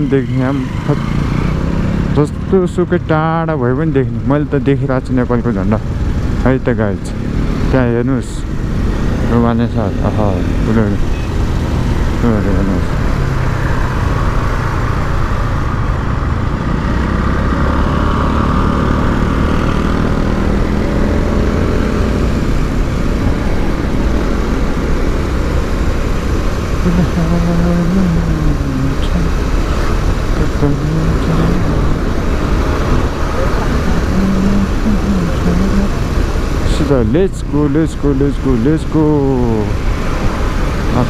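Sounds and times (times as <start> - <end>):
motorcycle engine running: 0.0 - 41.0
passing traffic: 0.0 - 41.0
road and wind noise: 0.0 - 41.0.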